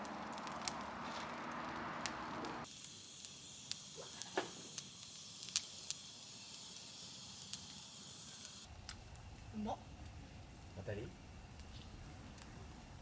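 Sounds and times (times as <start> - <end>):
campfire hissing: 0.0 - 13.0
fire popping: 0.0 - 13.0.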